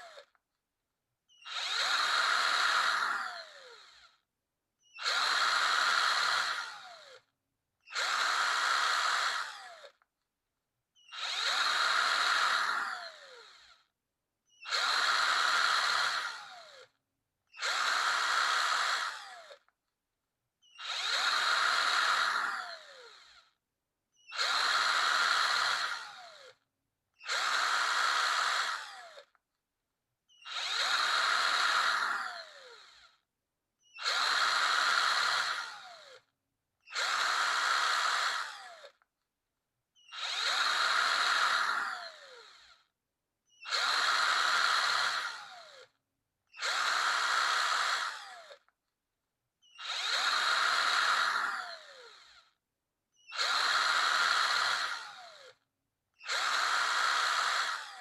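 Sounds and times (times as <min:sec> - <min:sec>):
electric drill whining: 0:00.0 - 0:00.4, 0:01.3 - 0:04.2, 0:04.8 - 0:07.3, 0:07.9 - 0:10.1, 0:11.0 - 0:13.9, 0:14.5 - 0:19.8, 0:20.6 - 0:26.6, 0:27.2 - 0:29.4, 0:30.3 - 0:33.2, 0:33.8 - 0:39.0, 0:40.0 - 0:42.9, 0:43.5 - 0:48.8, 0:49.6 - 0:52.6, 0:53.2 - 0:55.6, 0:56.2 - 0:58.0.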